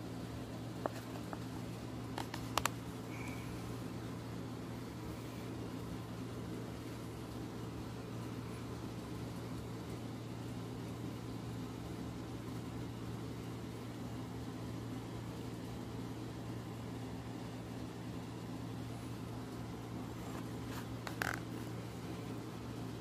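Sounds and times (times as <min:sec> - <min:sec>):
low mechanical hum with hiss: 0:00.0 - 0:23.0.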